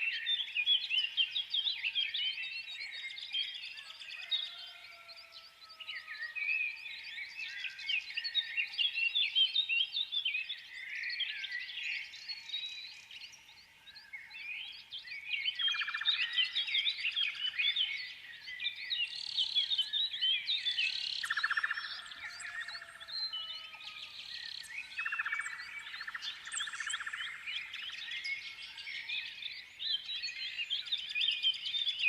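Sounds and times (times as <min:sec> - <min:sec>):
small birds chirping: 0:04.5 - 0:32.0.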